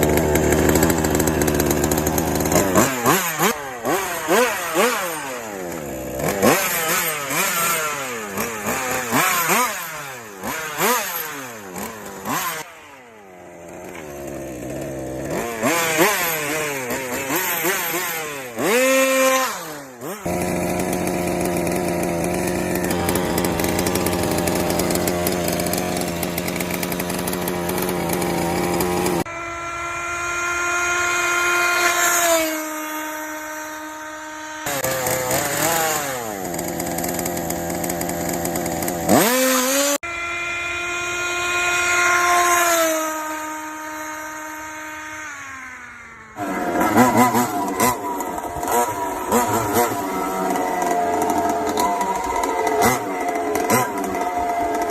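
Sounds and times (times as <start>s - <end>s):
two-stroke engine revving: 0.0s - 54.9s.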